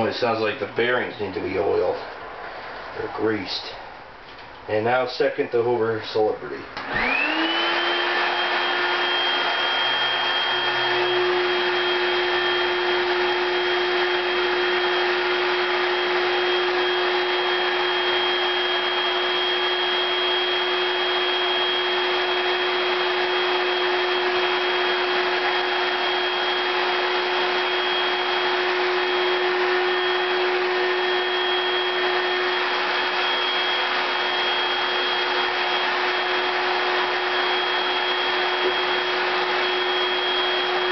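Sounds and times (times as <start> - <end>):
vacuum cleaner motor whine: 6.7 - 40.9.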